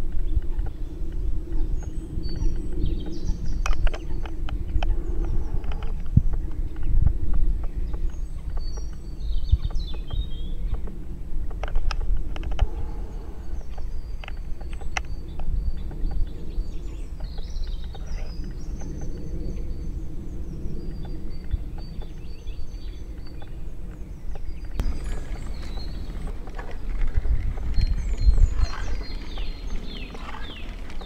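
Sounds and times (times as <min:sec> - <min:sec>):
songbirds singing: 0:00.0 - 0:31.0
steady low rumble: 0:00.0 - 0:31.0.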